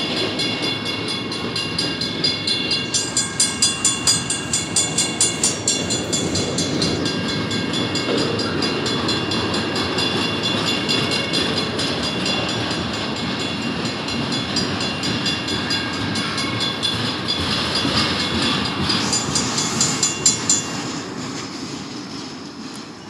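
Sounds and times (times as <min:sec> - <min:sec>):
railroad crossing bell ringing: 0:00.0 - 0:23.0
train wheels rumbling on rails: 0:00.0 - 0:23.0.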